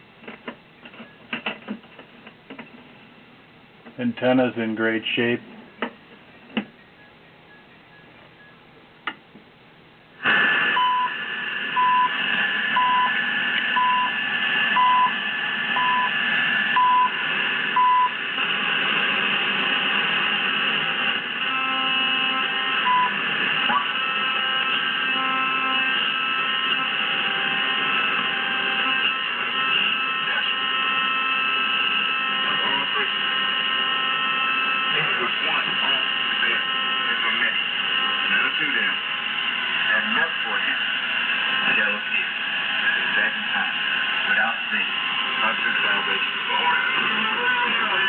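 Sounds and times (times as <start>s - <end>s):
radio static hiss: 0.0s - 9.2s, 10.1s - 48.0s.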